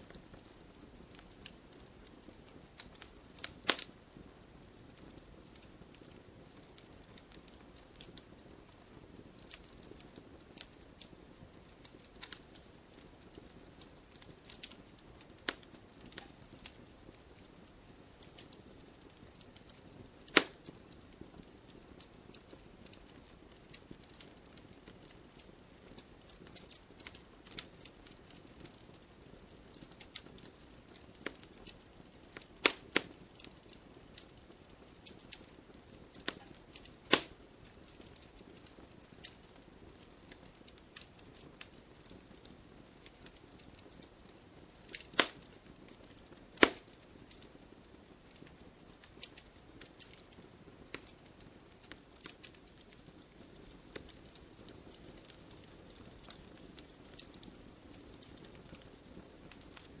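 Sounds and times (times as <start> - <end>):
campfire crackling: 0.0 - 60.0.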